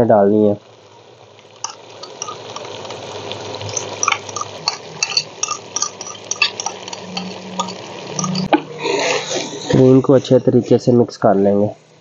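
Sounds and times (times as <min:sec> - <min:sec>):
pot sizzling: 0:00.0 - 0:12.0.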